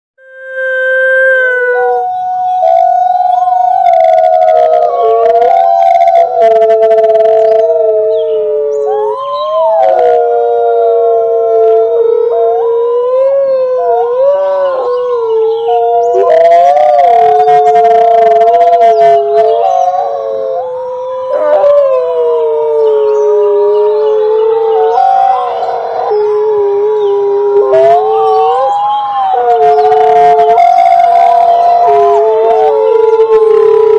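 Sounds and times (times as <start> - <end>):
rough high wolf cries: 0.2 - 12.7, 13.8 - 33.9
wolves howling in chorus: 0.5 - 33.9.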